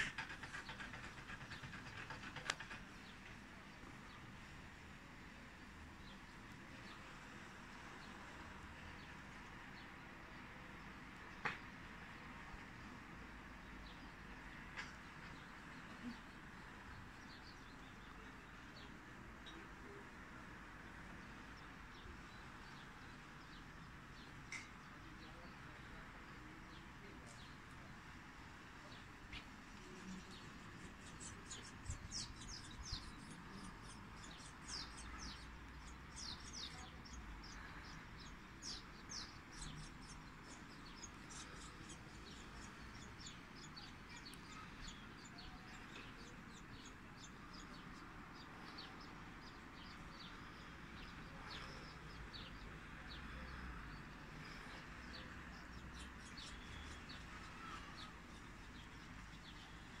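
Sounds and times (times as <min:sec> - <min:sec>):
small birds chirping: 0:00.0 - 0:04.7, 0:13.6 - 1:00.0.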